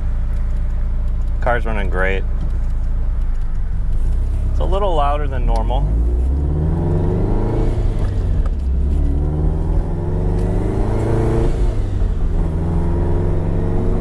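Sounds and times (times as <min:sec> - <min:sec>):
sports car engine accelerating: 0:00.0 - 0:14.0.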